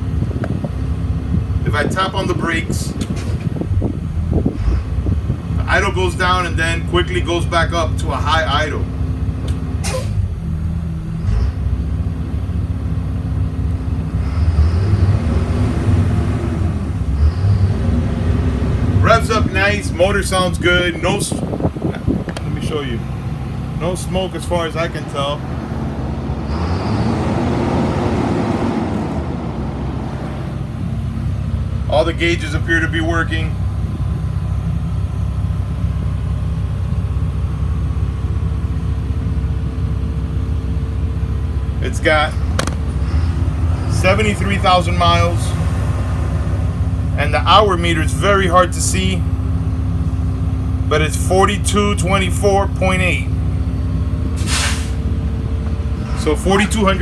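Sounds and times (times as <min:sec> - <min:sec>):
bus engine high idle: 0:00.0 - 0:57.0.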